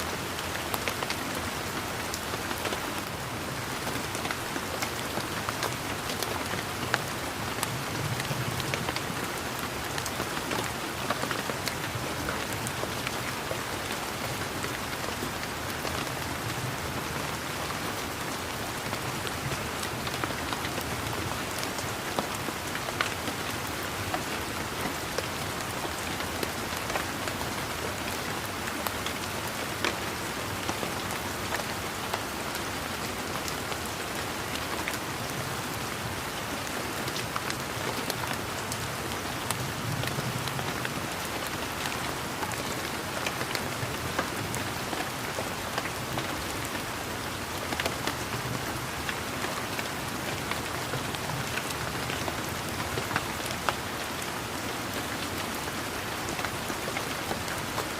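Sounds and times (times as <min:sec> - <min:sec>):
rain falling on leaves: 0:00.0 - 0:57.9.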